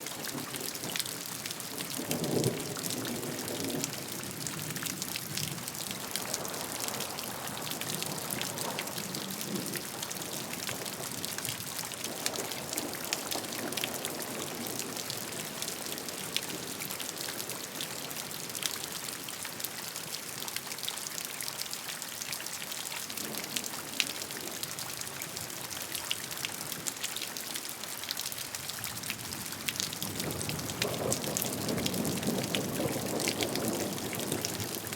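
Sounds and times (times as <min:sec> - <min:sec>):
raindrops pattering: 0:00.0 - 0:34.9.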